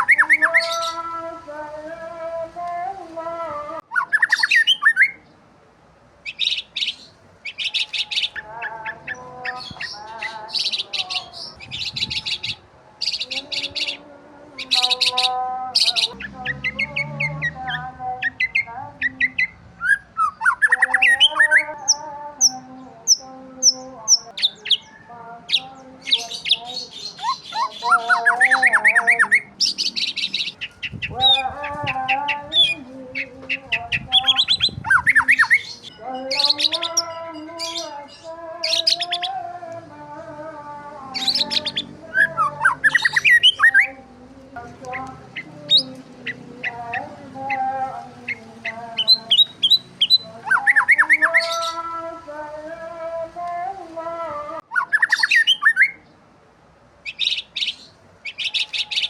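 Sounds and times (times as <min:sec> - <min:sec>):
birds chirping and twittering: 0:00.0 - 0:02.9, 0:03.8 - 0:05.4, 0:06.2 - 0:53.7, 0:54.6 - 0:56.2, 0:57.0 - 0:59.0.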